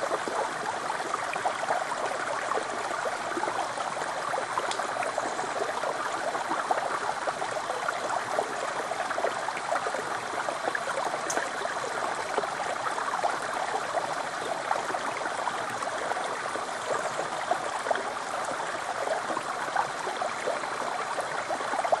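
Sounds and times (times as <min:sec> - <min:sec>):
stream rushing over rock: 0:00.0 - 0:22.0.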